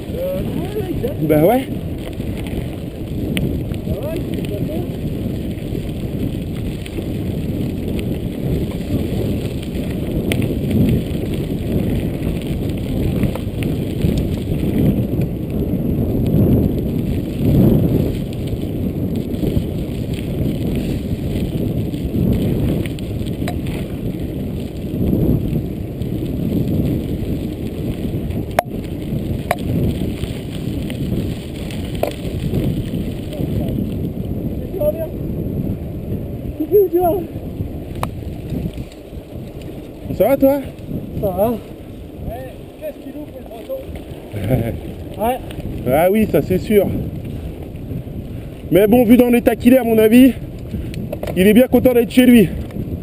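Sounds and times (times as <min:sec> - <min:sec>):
bike clicks and rattles: 0:00.0 - 0:34.6, 0:35.3 - 0:53.0
tyres rumbling on gravel track: 0:00.0 - 0:53.0
wind: 0:00.0 - 0:53.0.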